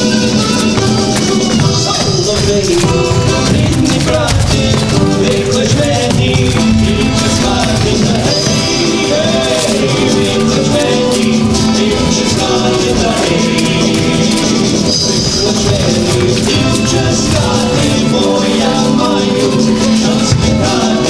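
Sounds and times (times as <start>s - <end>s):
lively dance music: 0.0s - 21.0s
shaken percussion: 0.0s - 21.0s.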